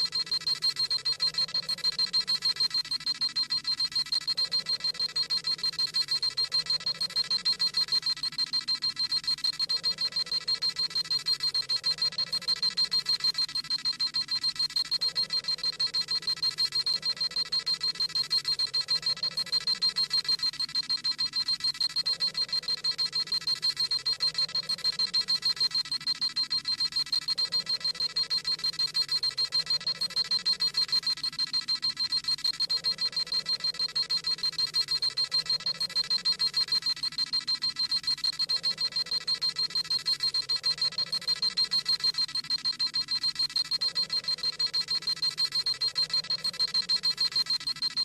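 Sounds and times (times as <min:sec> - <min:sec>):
rapid high-pitched electronic beeps: 0:00.0 - 0:48.0.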